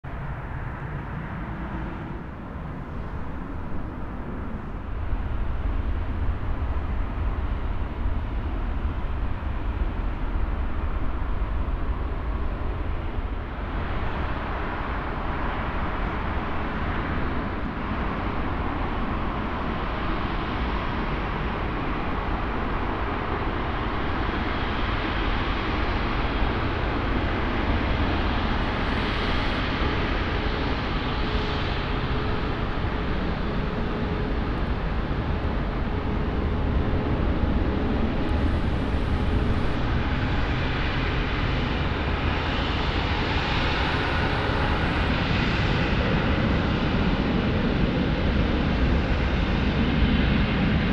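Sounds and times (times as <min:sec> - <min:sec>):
jet engine whine: 0:00.0 - 0:50.9
jet engines rumbling and hissing: 0:00.0 - 0:50.9.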